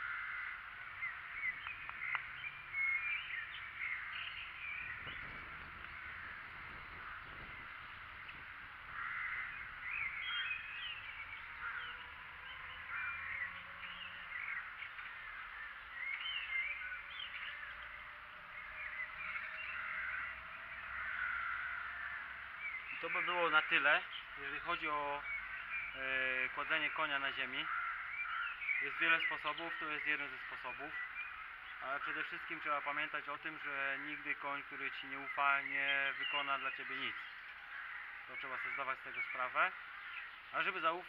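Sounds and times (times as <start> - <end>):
birds chirping and squawking: 0.0 - 41.0.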